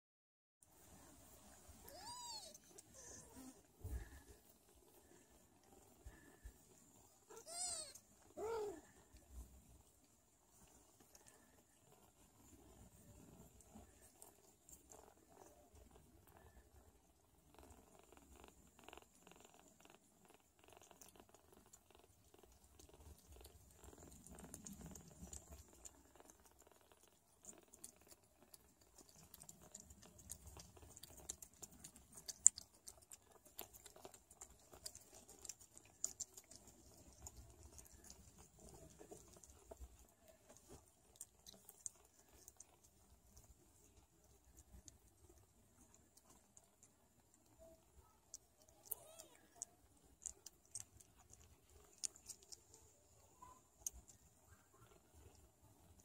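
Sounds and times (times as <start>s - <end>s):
cat purring faintly: 0.6s - 56.0s
kitten paws scratching blanket: 0.7s - 56.0s.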